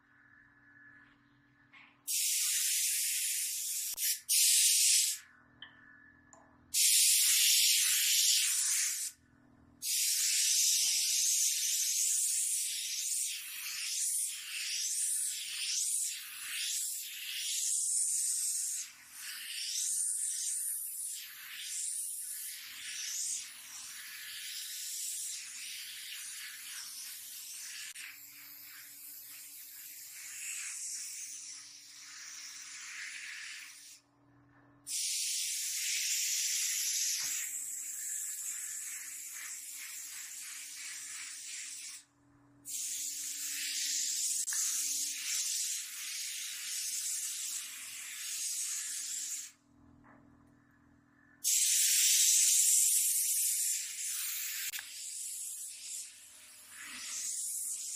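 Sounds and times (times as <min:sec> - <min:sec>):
paint spray gun hissing: 0:02.1 - 0:05.2, 0:06.7 - 0:09.2, 0:09.8 - 0:34.0, 0:34.9 - 0:42.0, 0:42.7 - 0:49.6, 0:51.4 - 0:57.9.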